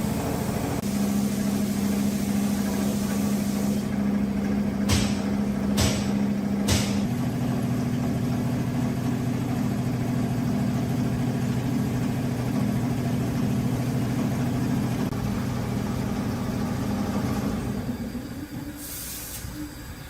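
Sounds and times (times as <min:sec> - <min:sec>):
van engine idling: 0:00.0 - 0:18.6.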